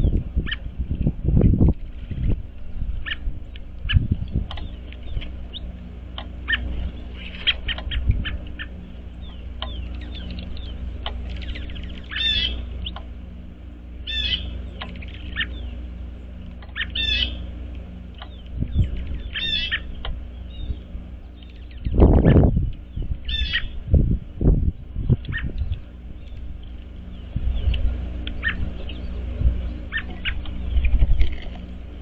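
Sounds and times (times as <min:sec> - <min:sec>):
songbirds calling: 0:00.0 - 0:32.0
steady low rumble: 0:00.0 - 0:32.0.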